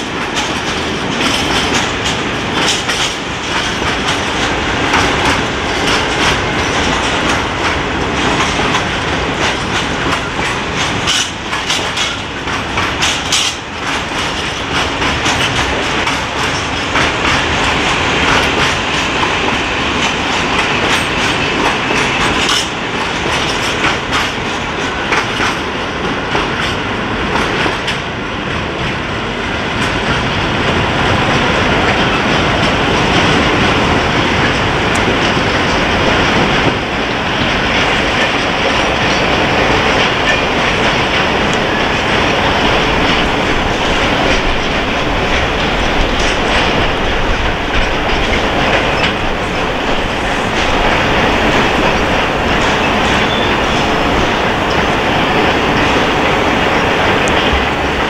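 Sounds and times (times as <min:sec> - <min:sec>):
train wheels clattering: 0:00.0 - 0:58.0.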